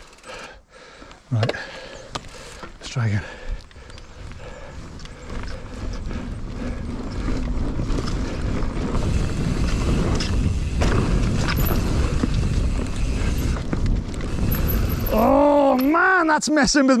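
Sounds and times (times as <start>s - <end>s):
bike rattling: 0.0s - 16.4s
bike tyres rolling over dirt: 1.2s - 16.4s.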